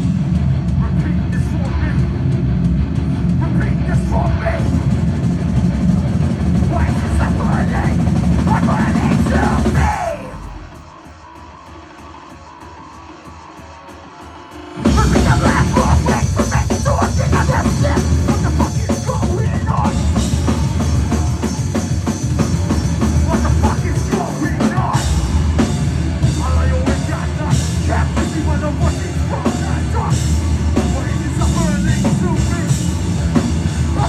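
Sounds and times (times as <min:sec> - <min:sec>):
heavy rock band playing live: 0:00.0 - 0:34.0.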